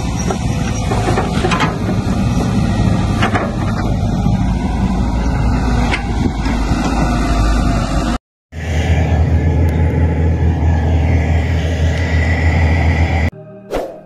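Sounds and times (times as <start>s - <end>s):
excavator diesel engine rumbling: 0.0s - 13.3s.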